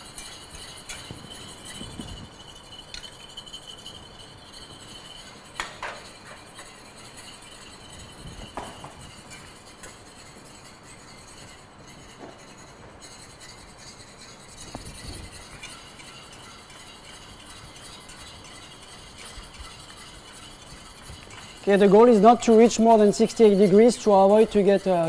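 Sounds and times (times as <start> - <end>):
whisk clinking against metal pan: 0.0 - 25.0
wire whisk swishing: 0.0 - 25.0.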